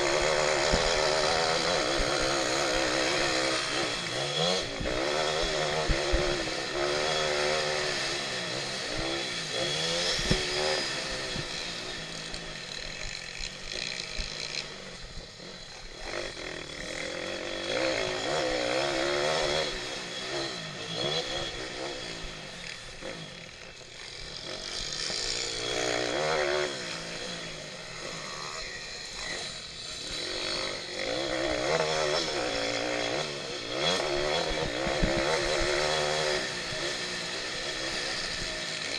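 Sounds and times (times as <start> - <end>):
small motorbike engine revving: 0.0 - 38.9.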